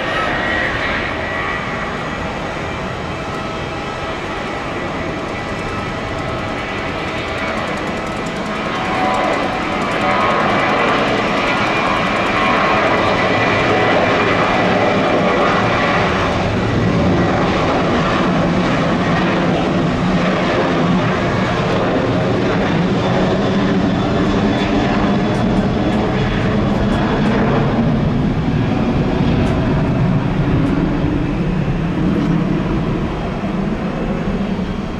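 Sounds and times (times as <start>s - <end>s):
jet engines whining: 0.0s - 34.9s.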